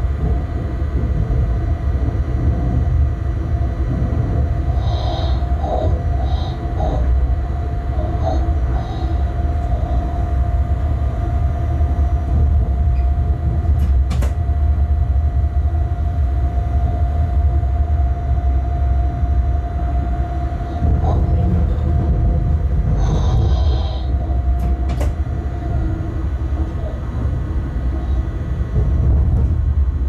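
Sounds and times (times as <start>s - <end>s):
locomotive low rumble: 0.0s - 30.0s
constant whine: 1.8s - 30.0s.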